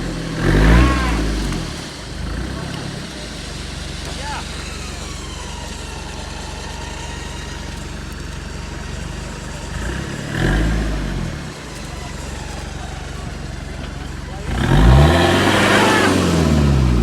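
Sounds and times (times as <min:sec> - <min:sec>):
engine idling: 0:00.0 - 0:17.0
engine revving: 0:00.0 - 0:17.0.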